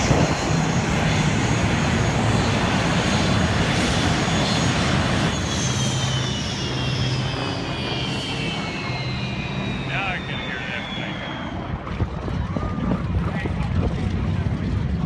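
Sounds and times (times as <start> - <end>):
airplane engine flying past: 0.0 - 15.0.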